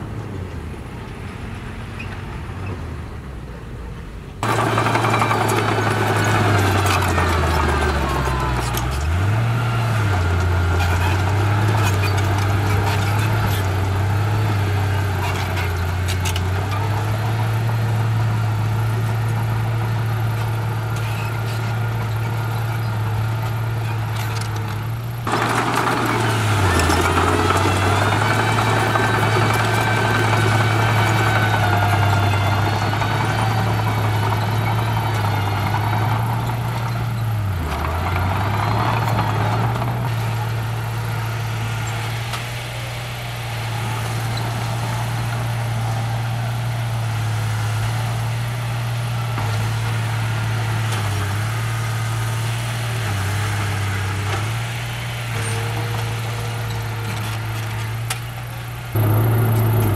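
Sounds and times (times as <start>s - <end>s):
diesel engines under load: 0.0s - 59.9s
engine whine: 3.0s - 59.9s.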